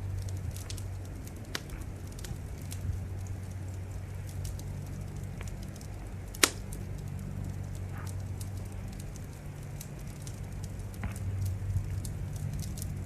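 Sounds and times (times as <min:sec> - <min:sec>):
low rumble: 0:00.0 - 0:13.0
wood fire crackling: 0:00.0 - 0:13.0.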